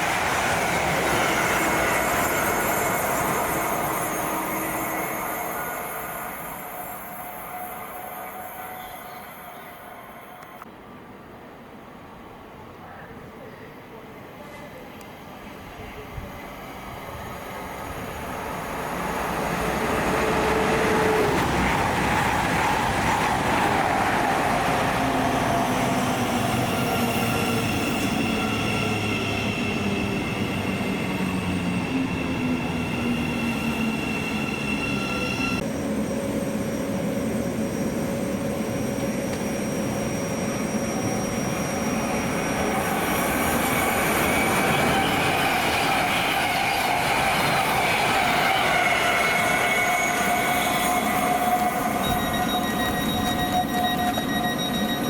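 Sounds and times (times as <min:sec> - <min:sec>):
train wheels rushing on rail: 0:00.0 - 0:10.7, 0:14.4 - 0:55.0
train whining tones: 0:00.0 - 0:10.7, 0:15.0 - 0:55.0.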